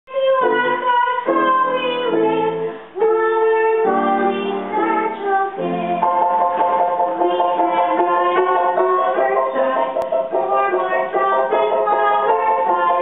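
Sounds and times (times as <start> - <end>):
girl singing: 0.1 - 13.0.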